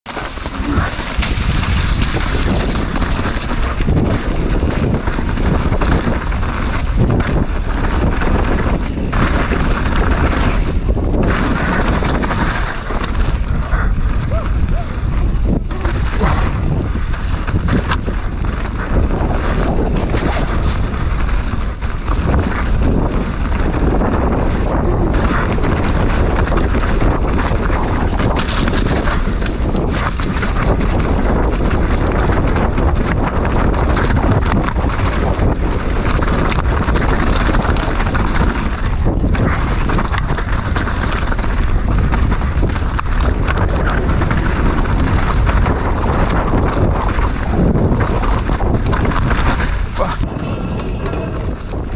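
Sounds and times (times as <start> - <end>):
bike knocking and rattling: 0.0 - 51.9
wind buffeting microphone: 0.0 - 51.9
tyres on dirt and rock: 0.1 - 51.9.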